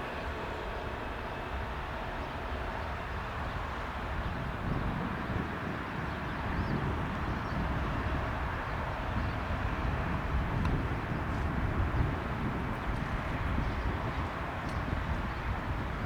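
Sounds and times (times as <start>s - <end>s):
wind buffeting microphone: 1.1s - 16.0s.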